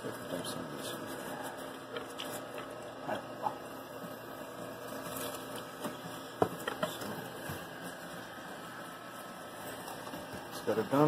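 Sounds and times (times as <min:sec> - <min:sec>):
steady running noise: 0:00.0 - 0:11.0.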